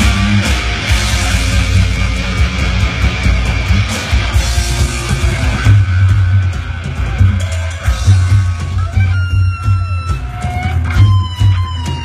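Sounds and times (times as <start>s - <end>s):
hard rock band playing live: 0.0s - 12.0s.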